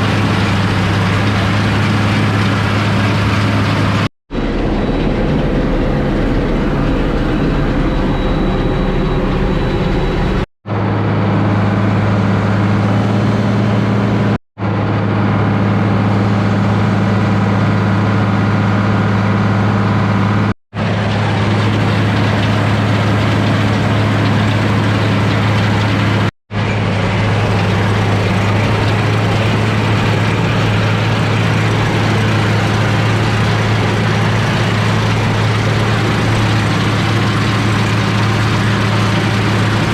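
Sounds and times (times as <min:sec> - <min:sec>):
diesel tractor engine humming: 0:00.0 - 0:39.9.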